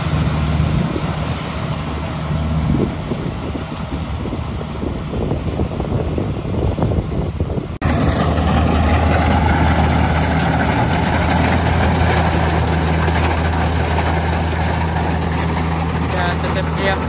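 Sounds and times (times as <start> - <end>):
harvester engine running: 0.0 - 17.0
wind buffeting rumble: 0.0 - 17.0.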